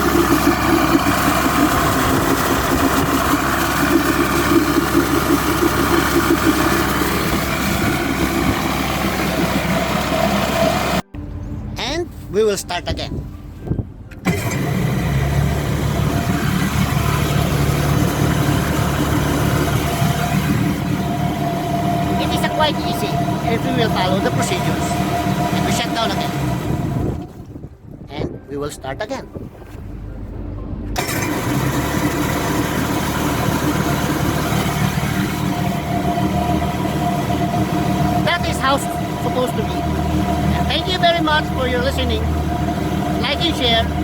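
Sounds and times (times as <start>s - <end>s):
boat engine starting and running: 0.0s - 44.0s.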